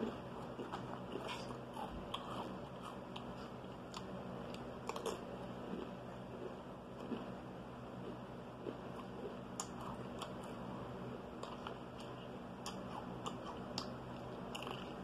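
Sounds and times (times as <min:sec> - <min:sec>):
chewing: 0:00.0 - 0:07.3, 0:08.0 - 0:15.0
sharp crunches while eating: 0:00.0 - 0:07.4, 0:08.0 - 0:15.0.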